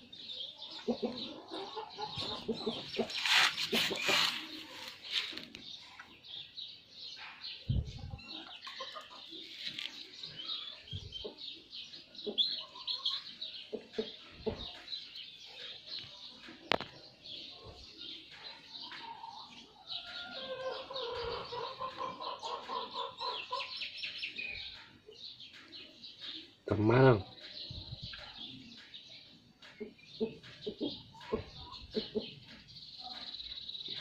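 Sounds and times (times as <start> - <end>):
birds chirping: 0.0 - 34.0
lower steady bird calls: 0.0 - 34.0.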